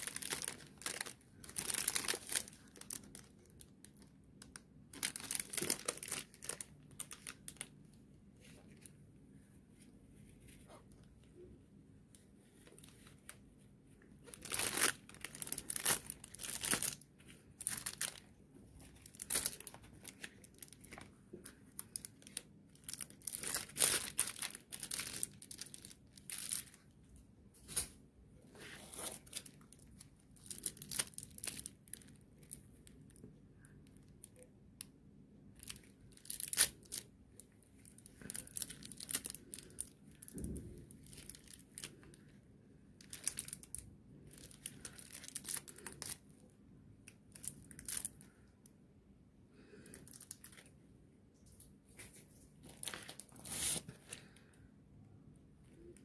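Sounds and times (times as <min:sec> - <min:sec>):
plastic sleeves crinkling: 0:00.0 - 0:09.0, 0:12.1 - 0:26.9, 0:27.6 - 0:34.5, 0:35.5 - 0:46.4, 0:47.0 - 0:48.5, 0:49.6 - 0:50.7, 0:51.4 - 0:54.6.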